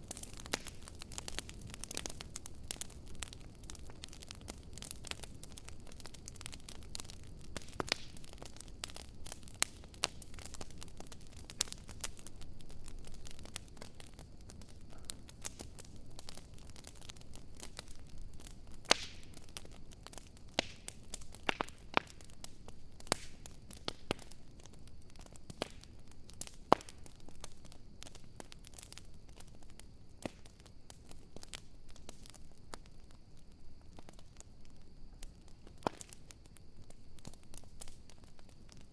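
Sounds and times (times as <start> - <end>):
bonfire crackling and popping: 0.0 - 38.9
soft fire hiss: 0.0 - 38.9.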